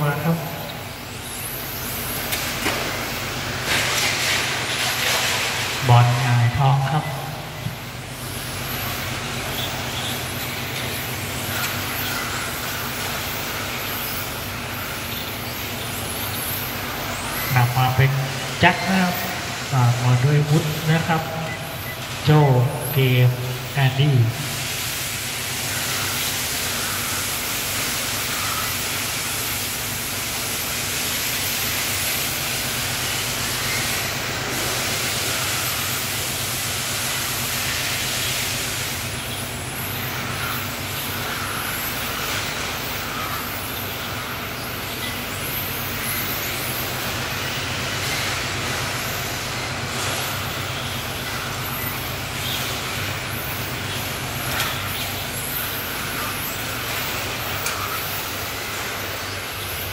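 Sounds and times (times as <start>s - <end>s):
rc cars hissing: 0.0s - 59.9s.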